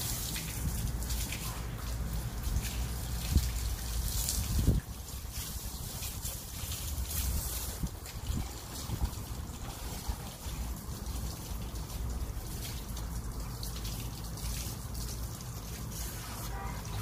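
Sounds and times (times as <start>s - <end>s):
hose water splashing: 0.0s - 17.0s.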